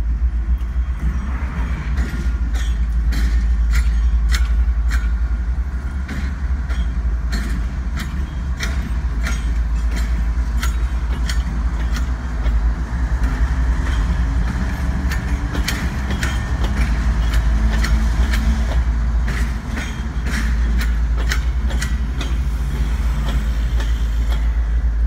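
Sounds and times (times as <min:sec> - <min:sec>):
diesel locomotives rumbling: 0:00.0 - 0:25.0
train metallic clicks and clanks: 0:00.0 - 0:25.0.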